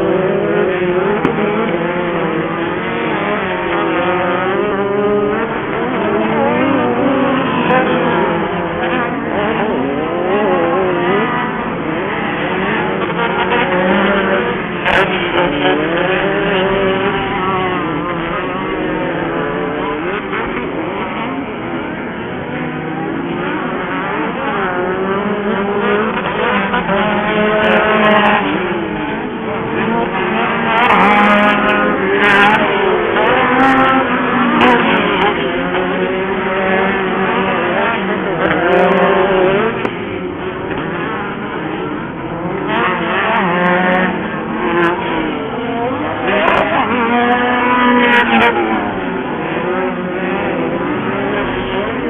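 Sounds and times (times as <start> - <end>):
racing buggy engines revving: 0.0 - 52.0.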